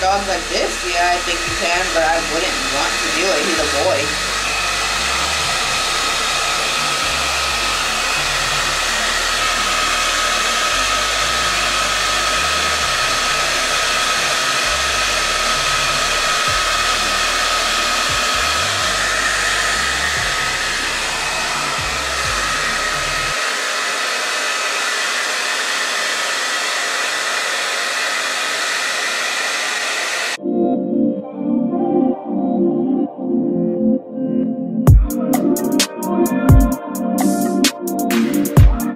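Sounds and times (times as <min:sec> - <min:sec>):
hair dryer blowing: 0:00.0 - 0:30.4, 0:34.9 - 0:38.9.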